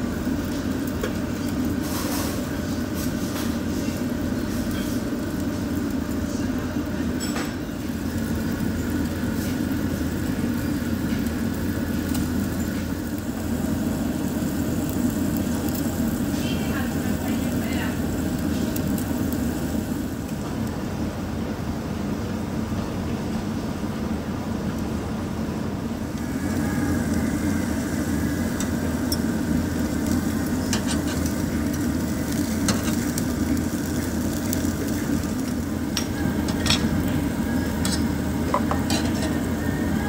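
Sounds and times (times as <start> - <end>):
meat sizzling on a grill: 0.0 - 20.8, 26.0 - 40.0.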